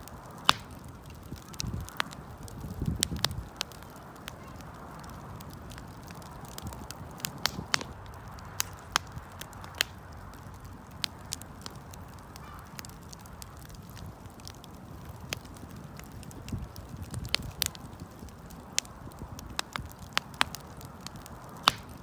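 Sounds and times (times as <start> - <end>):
bonfire crackling and popping: 0.0 - 22.0
low rush of fire: 0.0 - 22.0.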